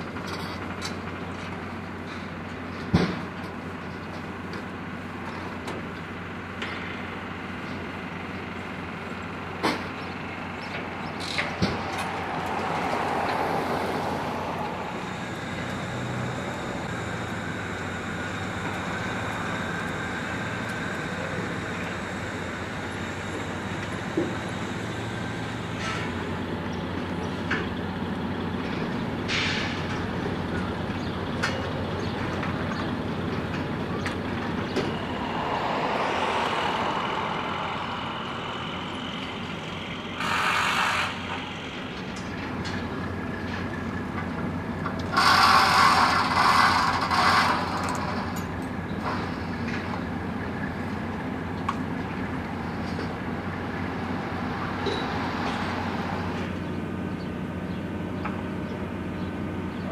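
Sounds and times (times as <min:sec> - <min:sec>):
large engine running: 0:00.0 - 0:59.9.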